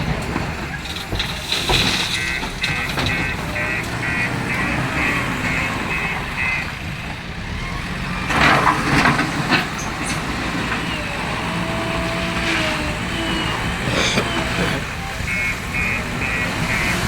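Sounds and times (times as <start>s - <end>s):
diesel engine running: 0.0s - 17.0s
reversing alarm beeps: 0.5s - 7.9s, 9.9s - 17.0s.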